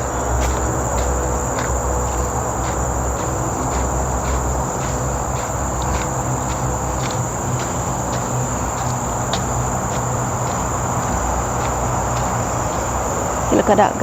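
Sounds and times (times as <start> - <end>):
footsteps on trail: 0.0 - 14.0
insects droning: 0.0 - 14.0
low rumble of traffic: 0.0 - 14.0.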